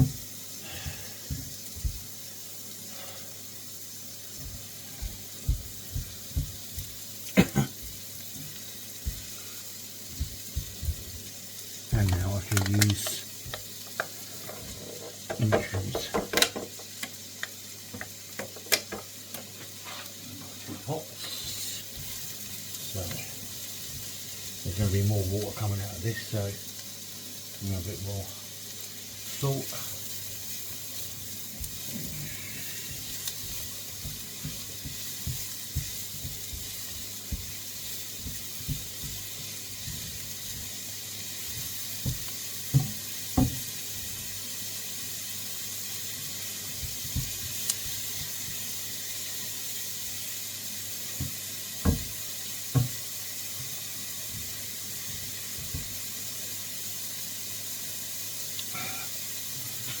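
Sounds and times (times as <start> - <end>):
vegetables sizzling in a wok: 0.0 - 60.0.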